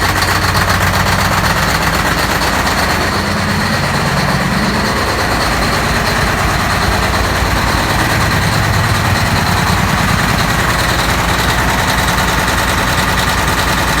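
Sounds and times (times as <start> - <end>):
diesel generator engine running: 0.0 - 14.0.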